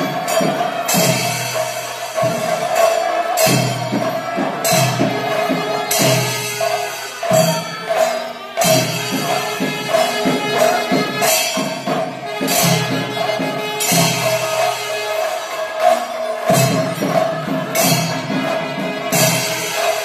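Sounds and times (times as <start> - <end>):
cymbals clashing: 0.0 - 20.0
drums beaten in running rhythm: 0.0 - 20.0.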